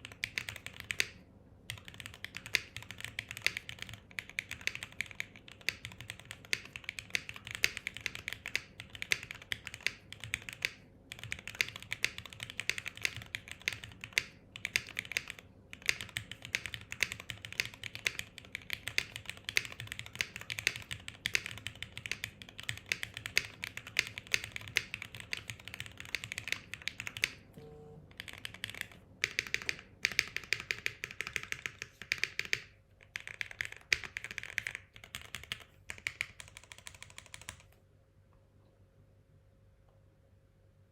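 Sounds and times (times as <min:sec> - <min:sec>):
mechanical keyboard typing: 0:00.0 - 0:37.8.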